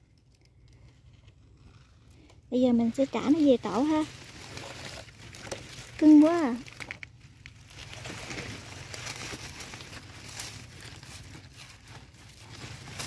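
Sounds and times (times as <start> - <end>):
leaves and stems rustling: 0.6 - 13.0.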